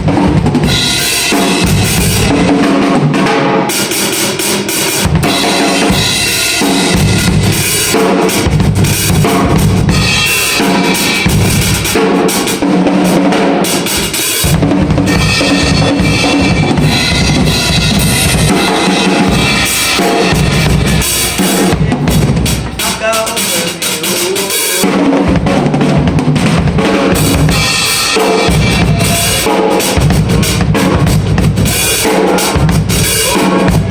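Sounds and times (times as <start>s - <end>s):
drum kit playing loudly: 0.0s - 33.9s.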